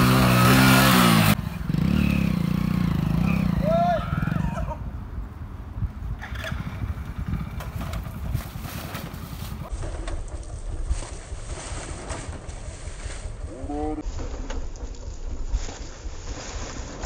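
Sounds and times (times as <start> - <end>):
motorcycle engine rumbling: 0.0 - 16.3.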